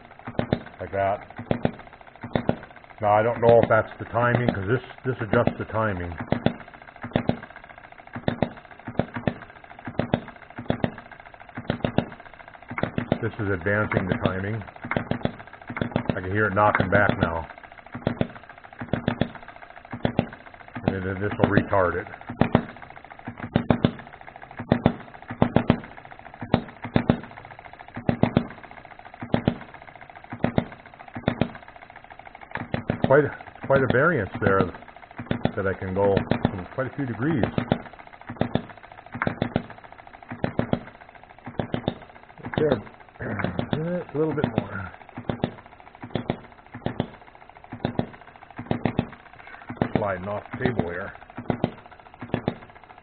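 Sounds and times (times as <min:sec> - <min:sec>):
model gas engine popping: 0:00.0 - 0:53.0.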